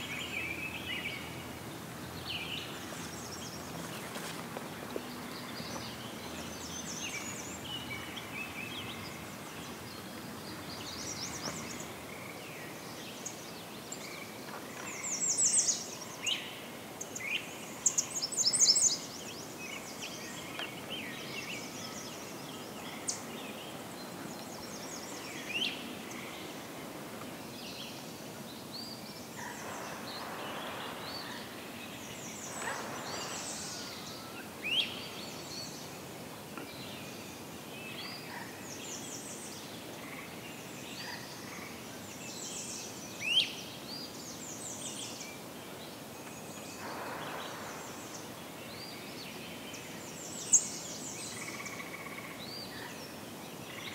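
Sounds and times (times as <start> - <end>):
woodland birdsong: 0.0 - 53.9.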